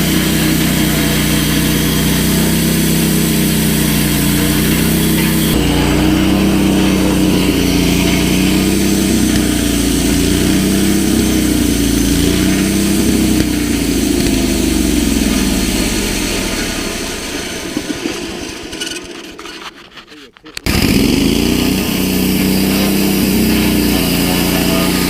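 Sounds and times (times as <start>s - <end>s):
engine running steadily: 0.0s - 18.2s, 20.6s - 25.0s.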